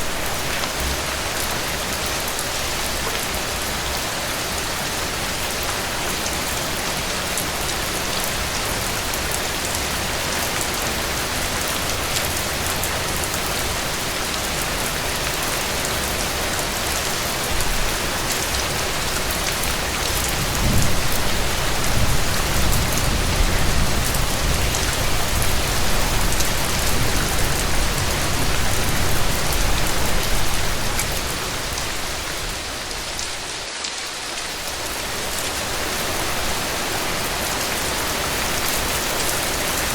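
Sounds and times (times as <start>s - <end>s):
heavy rain on a porch roof: 0.0s - 39.9s.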